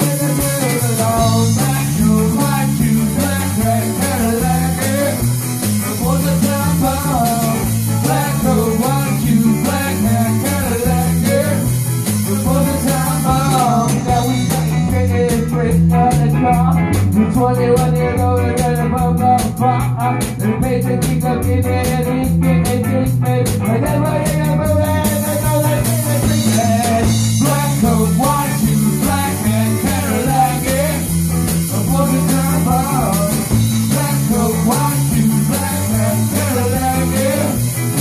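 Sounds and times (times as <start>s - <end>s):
bass guitar: 0.0s - 38.0s
distorted electric guitars: 0.0s - 38.0s
drum kit: 0.0s - 38.0s
man singing: 0.0s - 38.0s.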